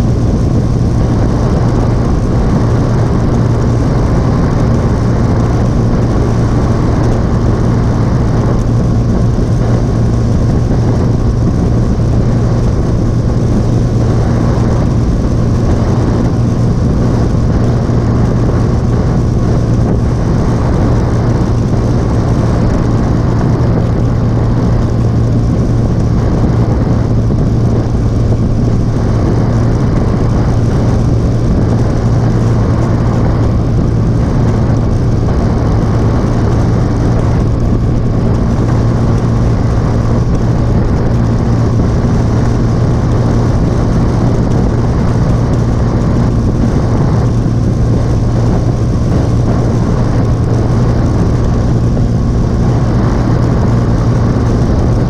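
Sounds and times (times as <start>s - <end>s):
motorcycle engine droning: 0.0s - 55.0s
wind and road noise: 0.0s - 55.0s.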